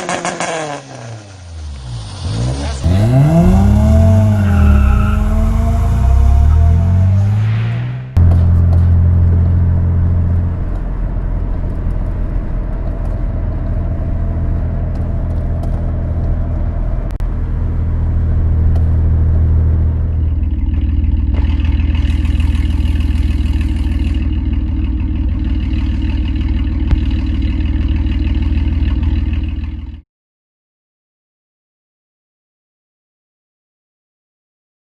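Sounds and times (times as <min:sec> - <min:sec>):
car engine running: 0:01.5 - 0:30.0.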